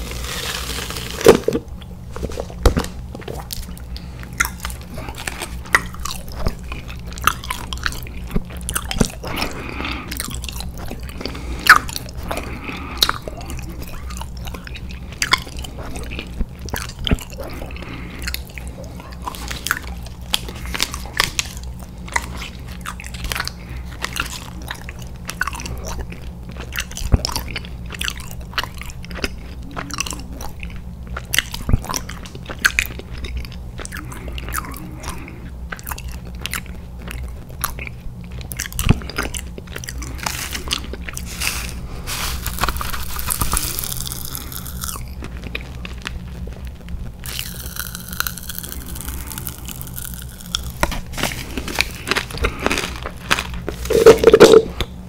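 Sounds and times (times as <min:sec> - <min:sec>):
person chewing candy: 0:00.0 - 0:55.0
steady low hum: 0:00.0 - 0:55.0.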